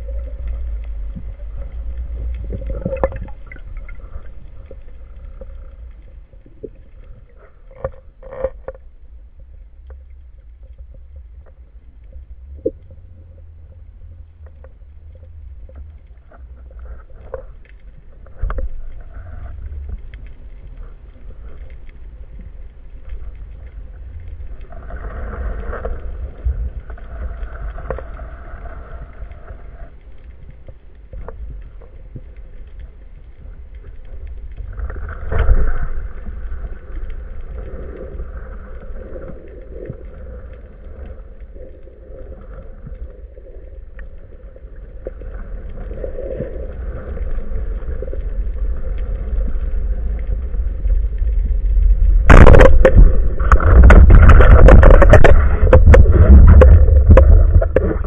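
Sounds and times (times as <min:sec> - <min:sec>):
low rumble: 0:00.0 - 0:58.0
muffled underwater water noise: 0:00.0 - 0:58.0.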